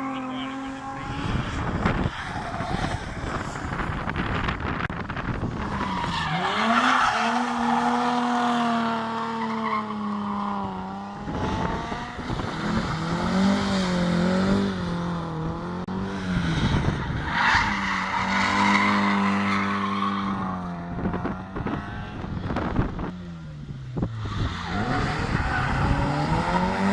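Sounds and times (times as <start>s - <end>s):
car engine at high revs: 0.0s - 26.9s.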